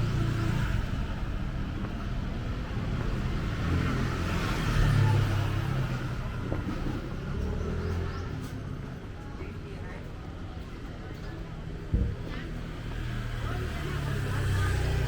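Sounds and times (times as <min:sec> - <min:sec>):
motor vehicles passing: 0:00.0 - 0:15.0.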